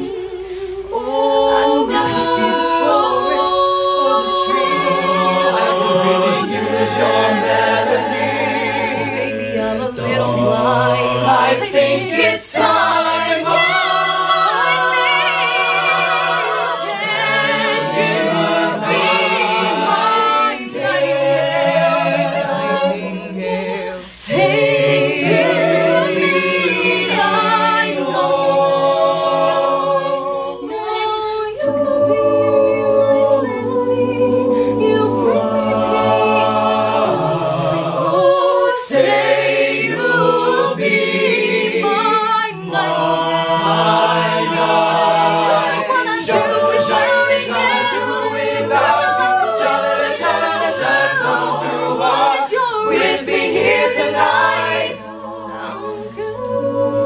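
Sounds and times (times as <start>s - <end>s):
a cappella group singing: 0.0s - 57.0s.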